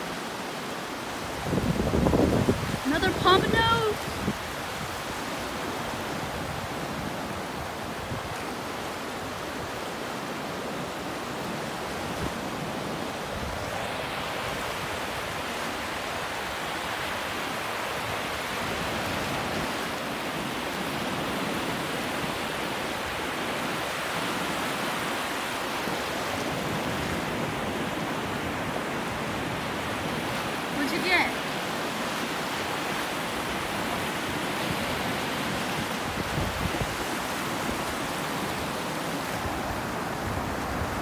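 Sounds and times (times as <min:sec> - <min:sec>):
ocean surf breaking: 0:00.0 - 0:41.0.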